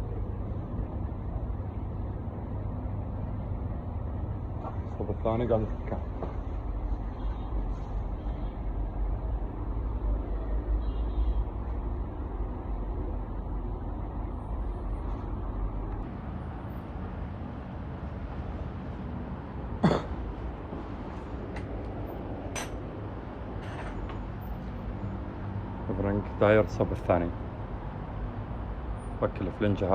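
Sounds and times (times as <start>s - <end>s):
low mechanical rumble: 0.0s - 29.6s.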